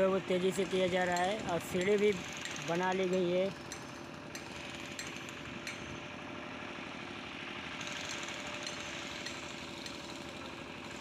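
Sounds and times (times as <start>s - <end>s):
engine chugging steadily: 0.0s - 11.0s.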